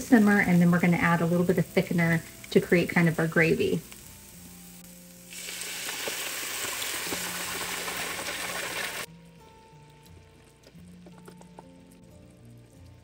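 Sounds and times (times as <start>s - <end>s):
liquid sizzling in a hot skillet: 0.0s - 11.0s
quiet background music: 0.0s - 13.0s.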